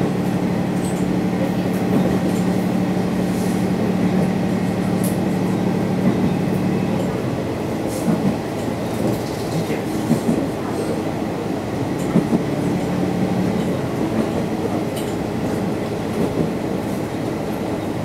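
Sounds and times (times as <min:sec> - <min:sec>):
diesel railcar engine drone: 0:00.0 - 0:18.0
wheels rumbling on rails: 0:00.0 - 0:18.0.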